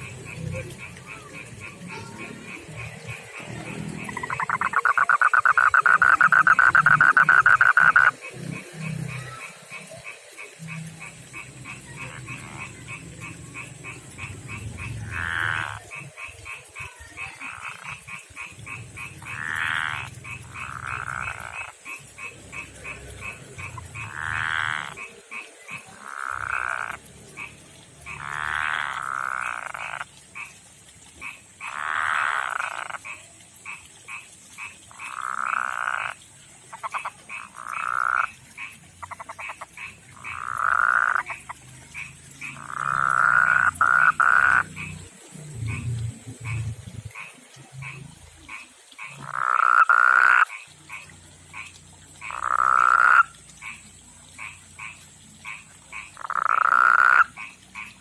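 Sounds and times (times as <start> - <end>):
frog clicking pulses: 0.0 - 58.0
frogs croaking: 0.0 - 58.0.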